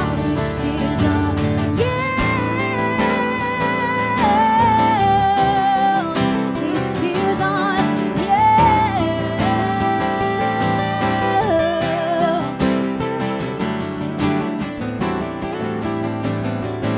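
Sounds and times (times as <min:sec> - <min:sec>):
woman singing country song: 0:00.0 - 0:16.0
strummed acoustic guitar: 0:00.0 - 0:16.9.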